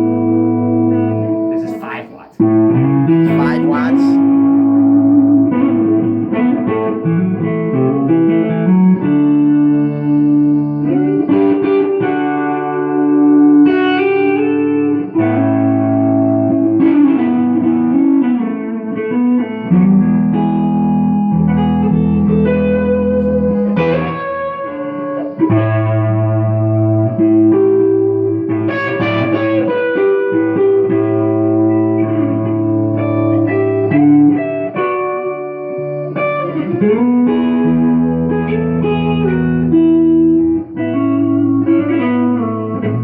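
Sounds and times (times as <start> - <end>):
electric guitar with reverb: 0.0 - 43.0.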